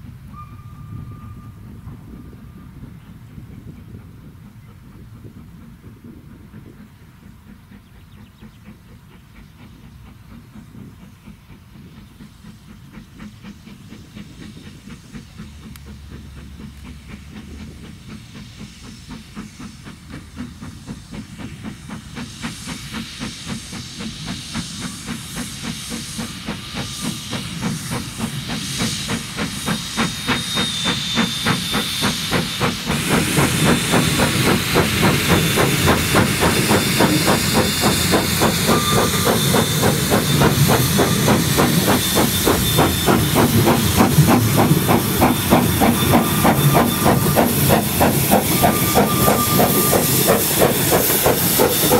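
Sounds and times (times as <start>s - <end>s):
steam hissing: 0.0s - 51.9s
steam locomotive exhaust chuffs: 0.0s - 51.9s.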